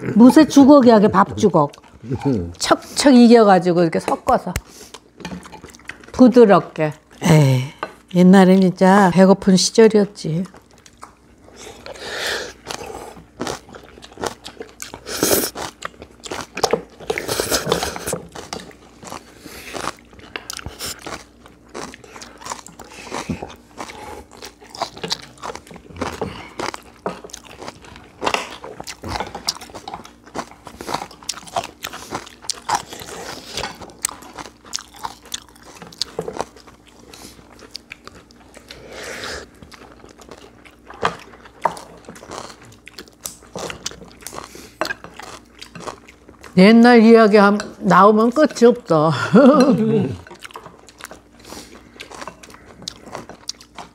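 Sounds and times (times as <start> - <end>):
close-up chewing and crunching: 0.0 - 3.5, 4.2 - 9.0, 9.8 - 53.9.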